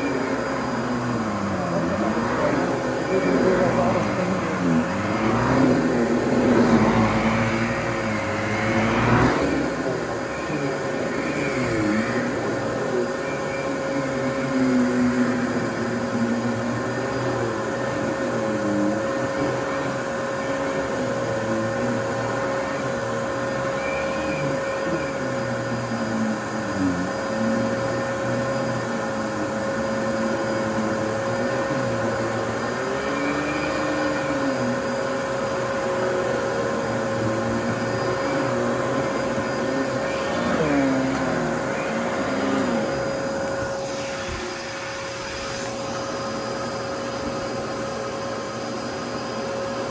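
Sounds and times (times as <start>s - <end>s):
vacuum cleaner whining: 0.0s - 49.9s.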